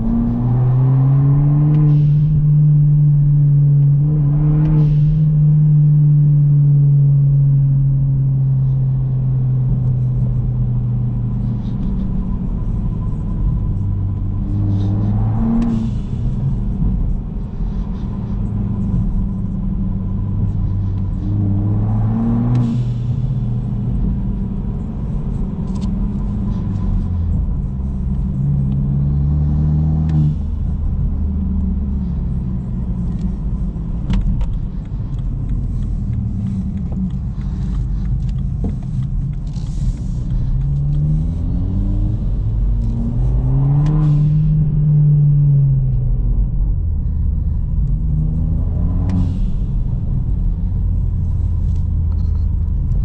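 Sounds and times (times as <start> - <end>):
car engine accelerating through gears: 0.0 - 53.0.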